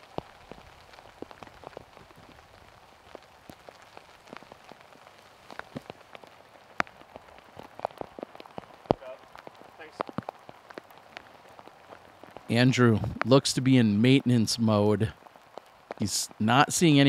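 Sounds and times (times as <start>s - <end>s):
faint steady hiss: 0.0s - 17.0s
raindrops tapping: 0.0s - 17.0s.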